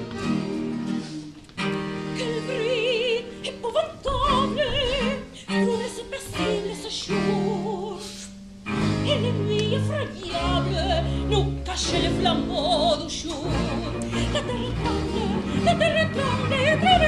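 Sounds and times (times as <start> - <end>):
baroque string ensemble: 0.0 - 17.0
soprano singing opera: 2.1 - 8.4, 9.0 - 17.0.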